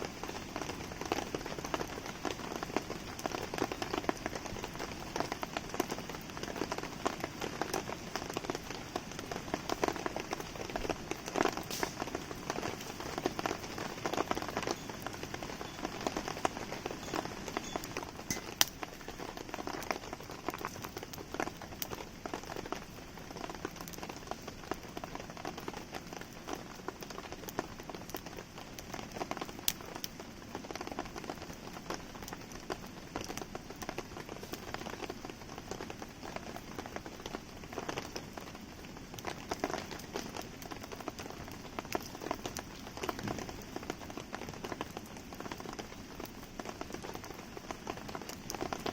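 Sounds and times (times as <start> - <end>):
campfire popping and crackling: 0.0 - 48.9
rain pattering: 0.0 - 48.9.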